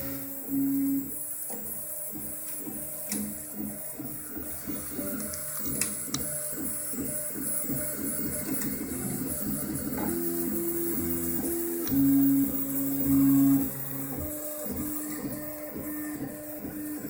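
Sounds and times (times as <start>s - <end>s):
stepper motor tones: 0.0s - 17.0s.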